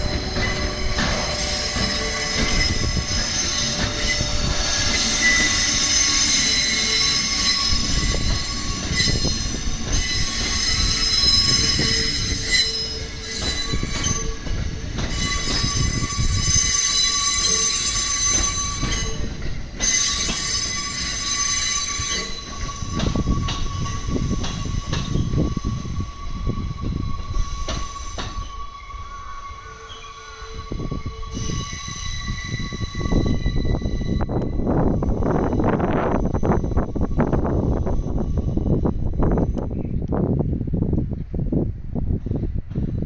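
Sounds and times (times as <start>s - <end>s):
wheels squealing: 0.0s - 34.6s
train rumbling on rails: 0.0s - 43.0s.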